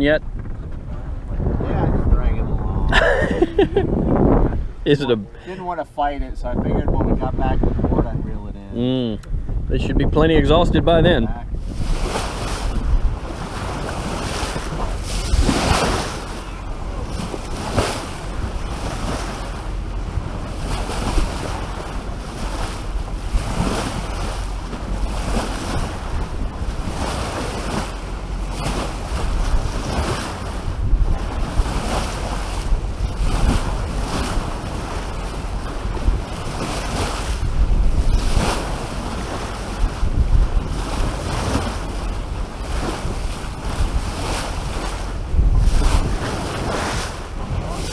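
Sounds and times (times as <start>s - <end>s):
water splashing along hull: 0.0s - 47.9s
wind buffeting microphone: 0.0s - 47.9s.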